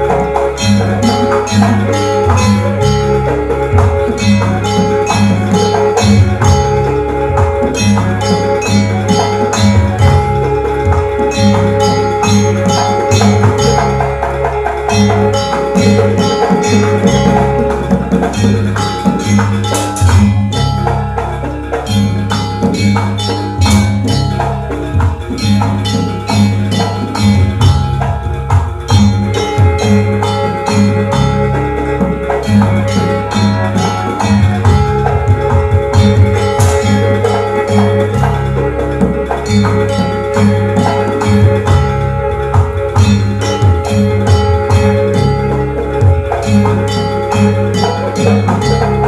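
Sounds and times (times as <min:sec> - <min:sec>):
instrumental dance music: 0:00.0 - 0:49.0
metallic percussion strikes: 0:00.0 - 0:49.0.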